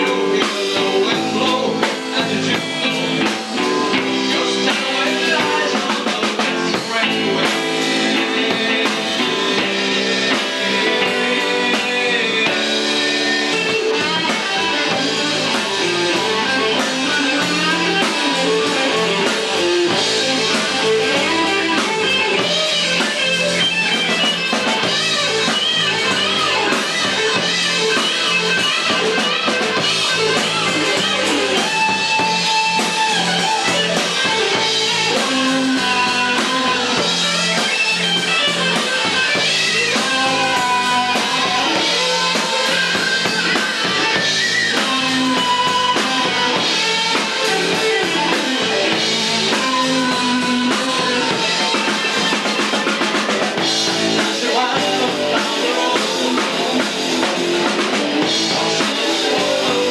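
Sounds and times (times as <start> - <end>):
drum kit: 0.0 - 59.9
electric guitar: 0.0 - 59.9
live rock band playing: 0.0 - 59.9.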